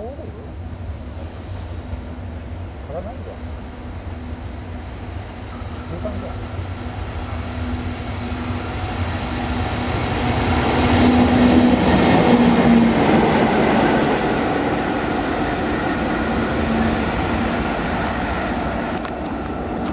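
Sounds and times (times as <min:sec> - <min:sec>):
train running past: 0:00.0 - 0:19.9.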